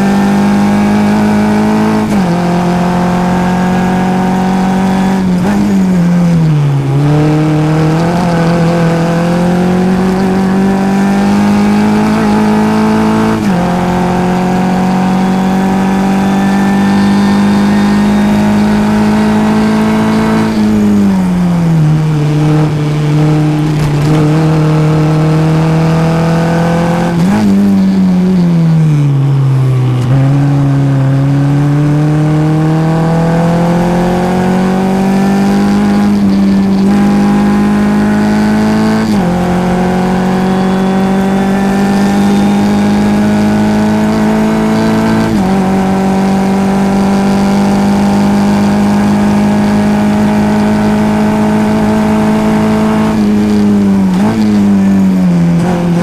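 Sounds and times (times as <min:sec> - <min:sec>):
race car engine shifting gears: 0:00.0 - 0:56.0.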